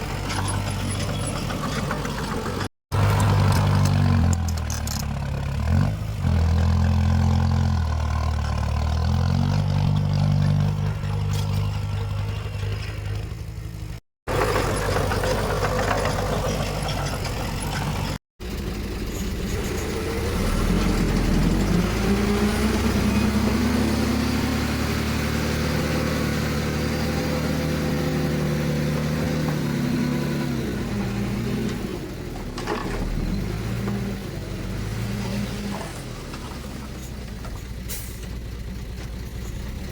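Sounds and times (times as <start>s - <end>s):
heavy diesel engines working: 0.0s - 39.9s.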